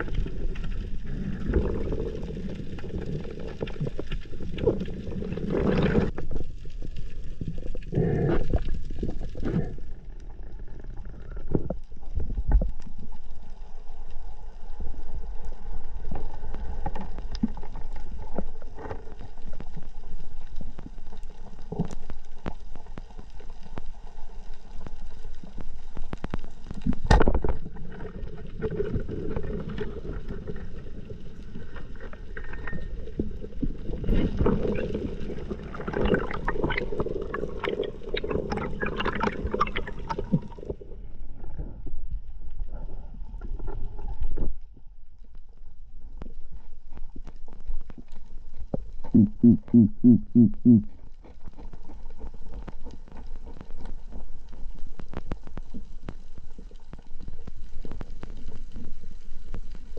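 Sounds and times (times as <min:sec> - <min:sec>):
crackling clicks underwater: 0:00.0 - 0:59.9
low underwater rumble: 0:00.0 - 0:59.9.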